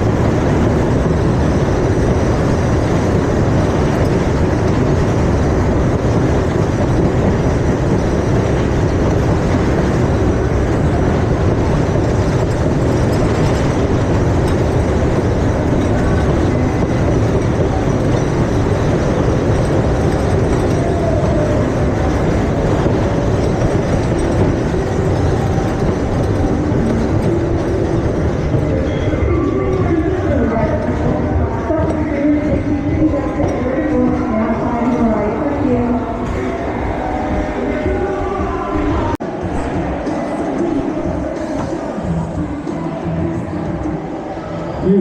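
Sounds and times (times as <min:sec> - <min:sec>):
ride vehicle rumbling on track: 0:00.0 - 0:45.0.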